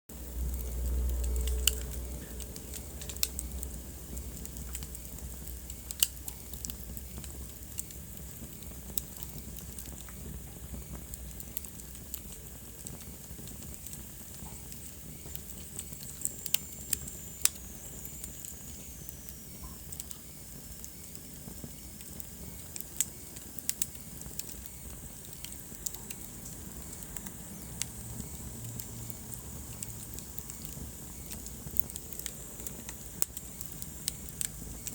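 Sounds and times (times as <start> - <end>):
low rumble of flames: 0.1 - 34.9
wood fire crackling and popping: 0.1 - 34.9.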